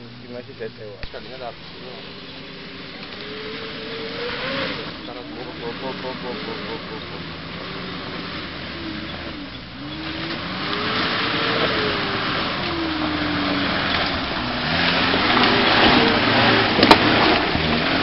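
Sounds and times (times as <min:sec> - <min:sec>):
suv engine revving: 0:00.0 - 0:18.0
tyres churning mud: 0:00.0 - 0:18.0.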